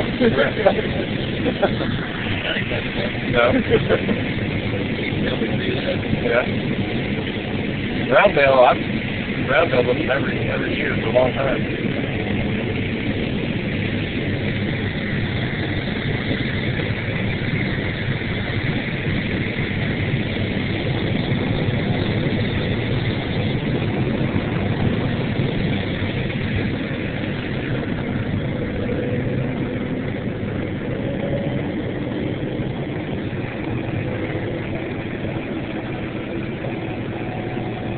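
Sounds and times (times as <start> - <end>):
combine harvester engine drone: 0.0 - 37.9.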